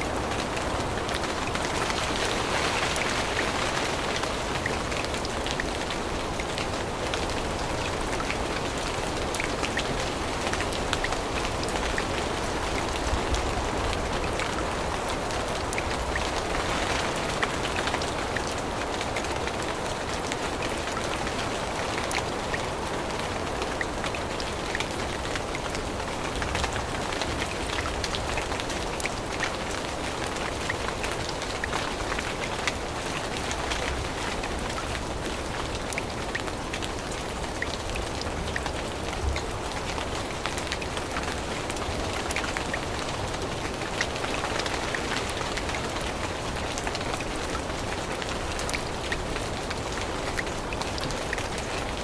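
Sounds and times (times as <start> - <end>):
rain falling in forest: 0.0 - 52.0.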